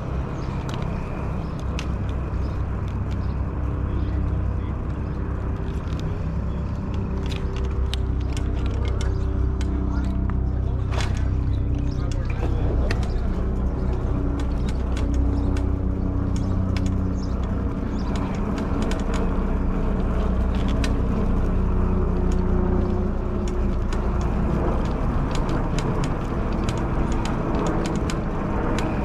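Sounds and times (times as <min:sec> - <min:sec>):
electric motor hum: 0:00.0 - 0:29.0
low tire rumble: 0:00.0 - 0:29.0.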